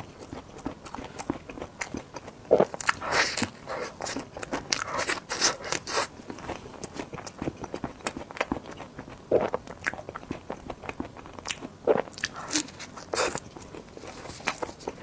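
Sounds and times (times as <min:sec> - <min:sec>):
biting and chewing: 0:00.0 - 0:15.0.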